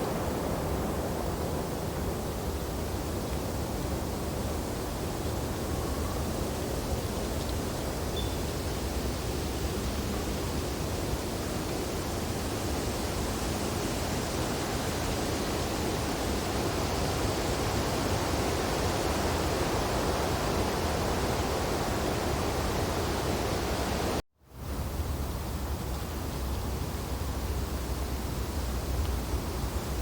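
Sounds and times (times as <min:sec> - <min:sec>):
wind through tree branches: 0:00.0 - 0:30.0.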